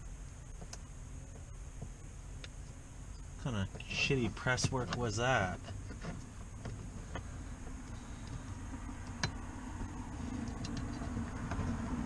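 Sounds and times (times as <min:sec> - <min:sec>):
low steady background rumble: 0:00.0 - 0:12.0.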